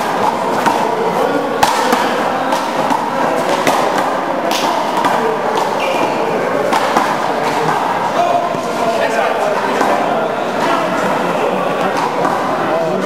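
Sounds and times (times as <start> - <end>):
reverberant room noise: 0.0 - 13.0.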